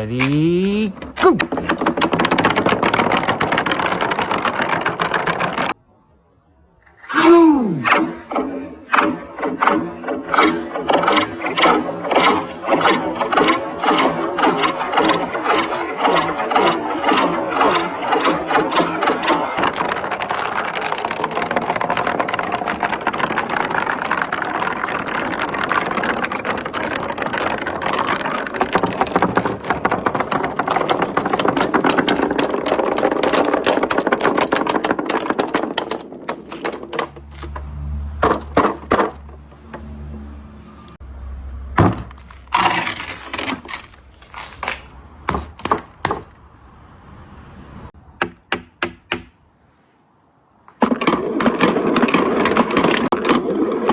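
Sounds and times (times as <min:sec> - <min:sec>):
marbles rattling down marble run: 0:00.0 - 0:05.8, 0:07.1 - 0:39.4, 0:42.1 - 0:44.8, 0:50.8 - 0:53.9.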